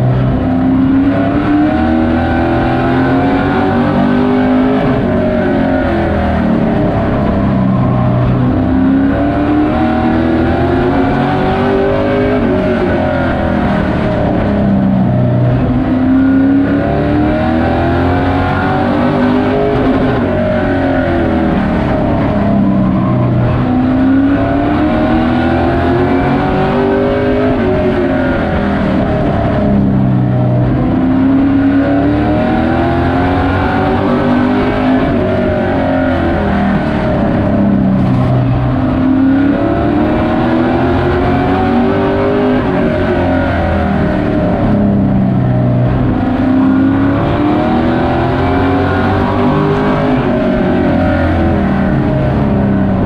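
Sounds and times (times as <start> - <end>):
race truck engine revving: 0.0 - 53.0.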